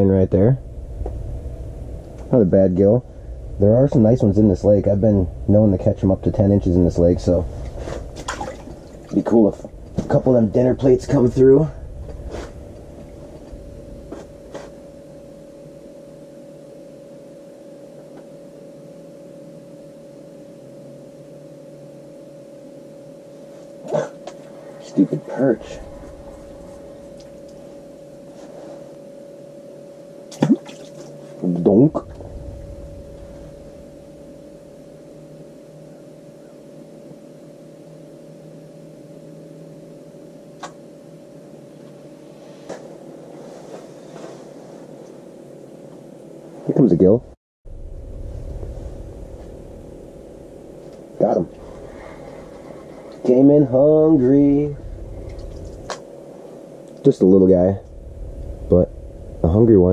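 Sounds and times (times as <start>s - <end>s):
steady hum with low rumble: 0.0s - 59.9s.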